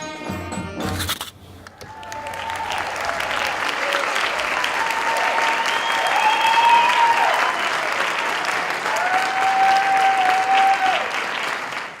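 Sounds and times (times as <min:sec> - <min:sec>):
audience clapping: 0:01.6 - 0:12.0
cheering whoops: 0:01.7 - 0:11.4.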